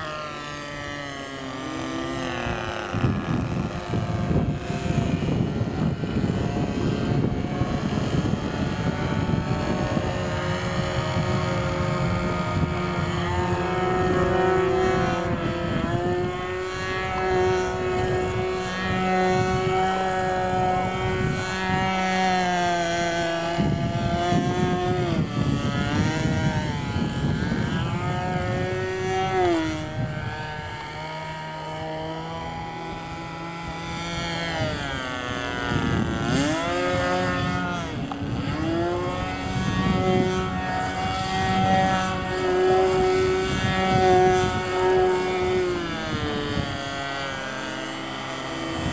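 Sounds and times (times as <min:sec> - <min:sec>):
model airplane engine whining: 0:00.0 - 0:48.9.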